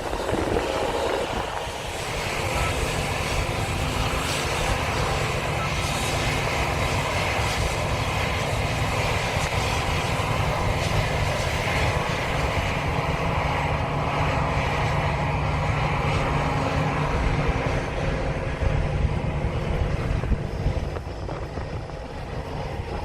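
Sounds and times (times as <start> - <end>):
combine harvester droning: 0.0 - 23.0.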